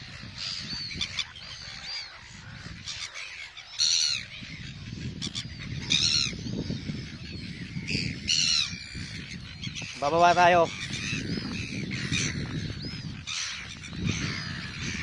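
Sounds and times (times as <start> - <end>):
seagulls squawking: 0.0 - 15.0.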